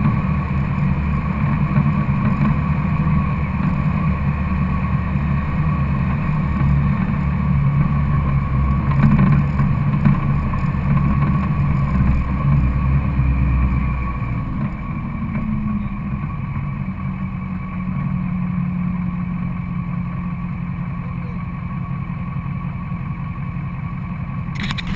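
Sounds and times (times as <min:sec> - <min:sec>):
diesel engine idling: 0:00.0 - 0:24.9.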